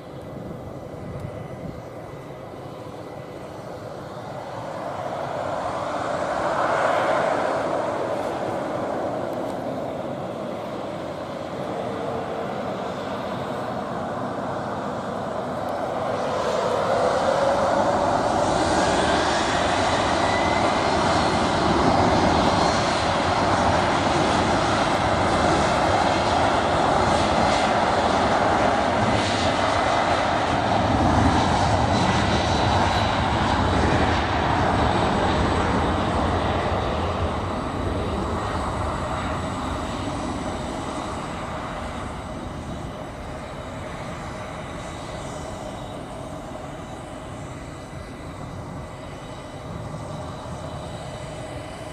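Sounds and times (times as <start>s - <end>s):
jet engines at takeoff power: 0.0s - 51.9s.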